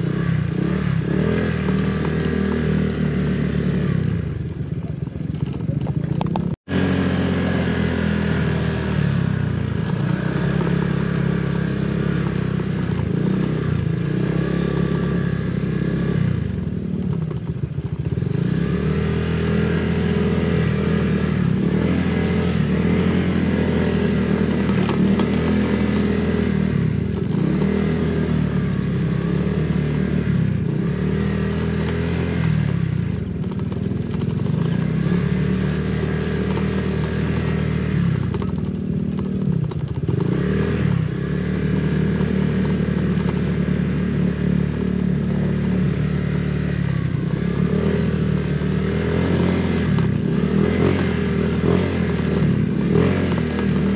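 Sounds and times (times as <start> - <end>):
scooter engine running: 0.0 - 53.9.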